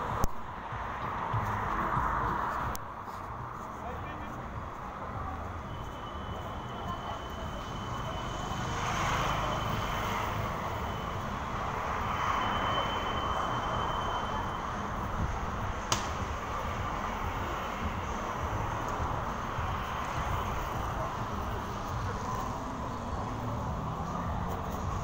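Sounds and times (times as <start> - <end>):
vehicle engines and tyre noise: 0.0 - 25.0.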